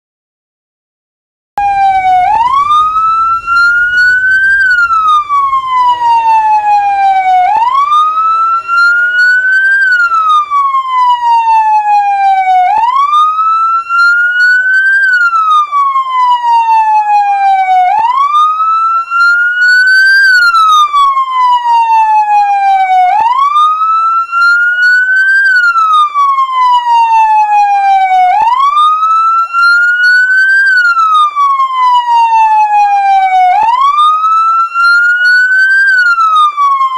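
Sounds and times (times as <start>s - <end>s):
ambulance siren wailing: 1.6s - 36.9s
faint steady siren tone: 1.6s - 36.9s
rapid siren warble: 1.6s - 36.9s.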